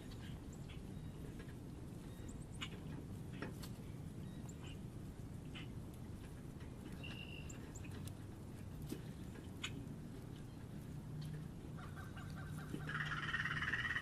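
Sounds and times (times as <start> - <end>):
low background rumble: 0.0 - 14.0
small birds chirping: 0.0 - 14.0.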